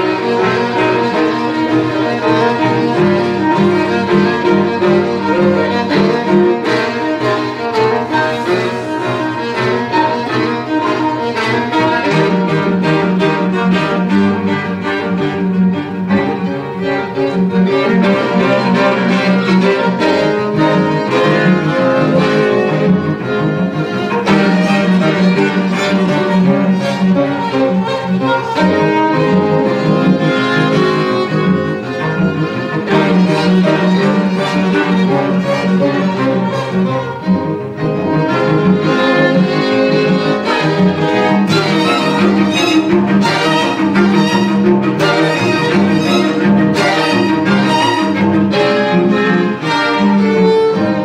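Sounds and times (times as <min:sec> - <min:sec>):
string quartet playing: 0:00.0 - 0:51.0.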